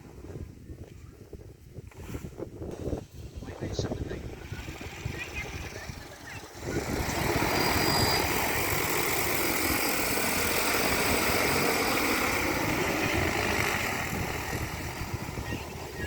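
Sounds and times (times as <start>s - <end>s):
drone rotors whirring: 2.8s - 16.0s.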